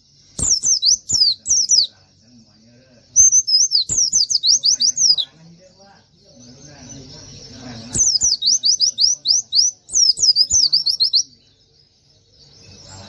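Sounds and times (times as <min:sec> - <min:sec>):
songbird whistled song: 0:00.0 - 0:13.0.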